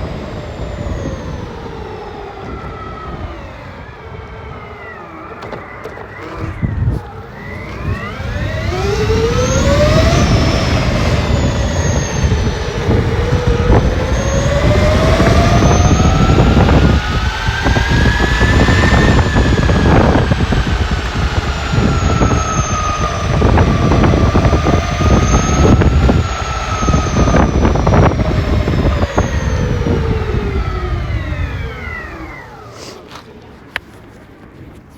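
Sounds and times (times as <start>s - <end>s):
electric motor whining: 0.0s - 34.9s.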